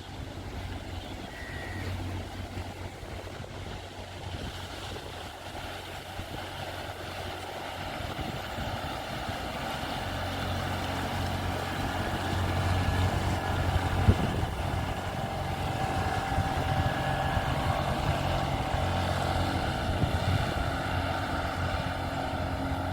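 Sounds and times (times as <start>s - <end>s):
boat engine humming: 0.0s - 22.9s.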